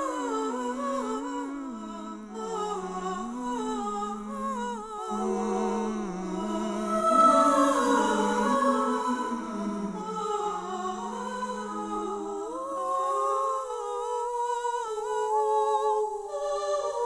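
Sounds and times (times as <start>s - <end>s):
layered voice-like humming tones: 0.0s - 17.0s.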